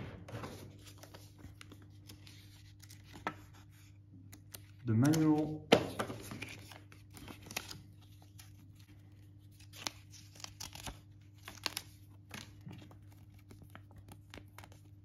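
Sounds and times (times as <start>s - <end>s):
paper rustling and crinkling: 0.3s - 15.0s.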